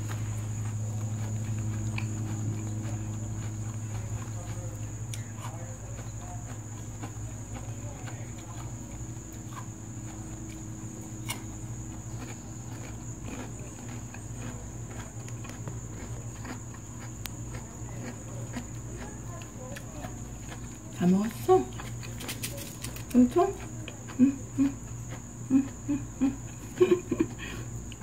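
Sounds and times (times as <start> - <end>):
low hum: 0.0 - 28.0
rabbit chewing: 0.0 - 28.0.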